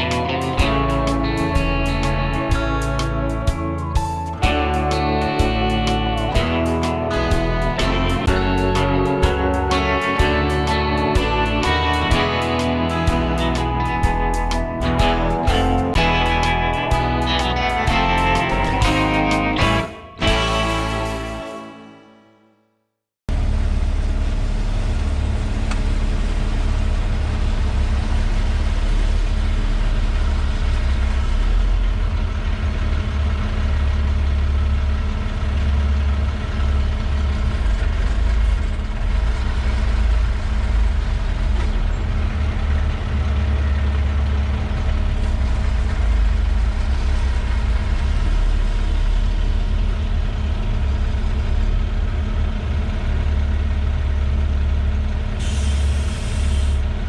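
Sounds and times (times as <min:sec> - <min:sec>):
excavator diesel engine running: 0:00.0 - 0:21.7, 0:23.3 - 0:57.0.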